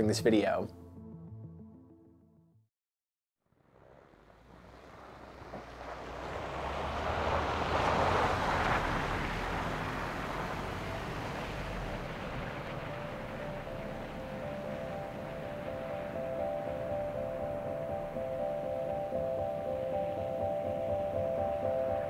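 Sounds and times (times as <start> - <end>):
car driving past on snow: 3.5 - 22.0
low engine rumble: 3.6 - 22.0.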